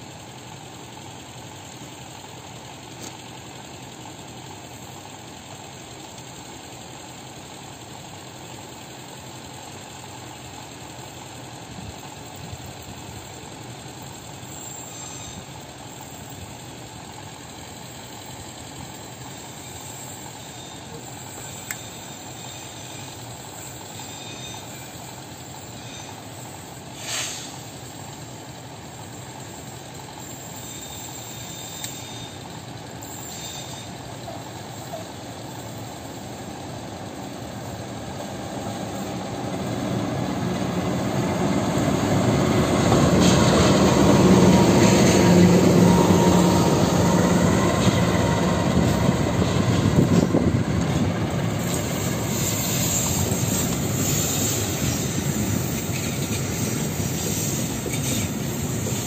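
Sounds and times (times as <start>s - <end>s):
diesel locomotive engine: 0.0s - 59.0s
train carriages rumbling on rails: 0.0s - 59.0s.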